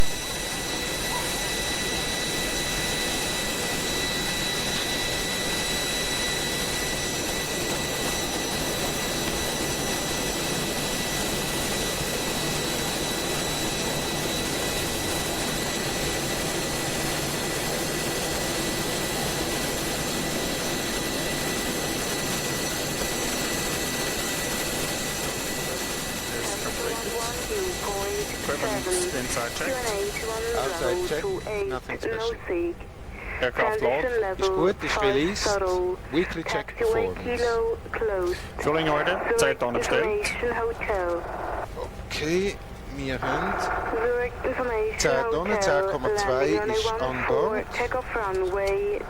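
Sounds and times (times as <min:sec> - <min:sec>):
constant high whine: 0:00.0 - 0:49.0.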